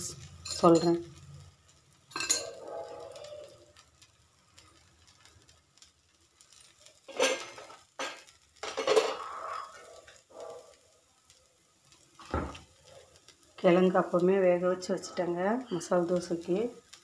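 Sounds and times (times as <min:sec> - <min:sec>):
food sizzling on a hot pan: 0:00.0 - 0:17.0.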